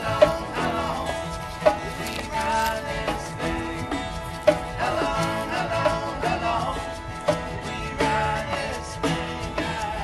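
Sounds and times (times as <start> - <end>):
acoustic country band playing: 0.0 - 10.0.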